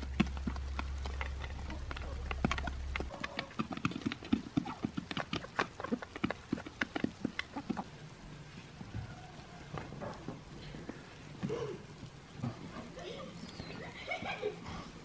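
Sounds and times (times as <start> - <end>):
beaks tapping on ground: 0.0 - 8.0, 8.8 - 14.4.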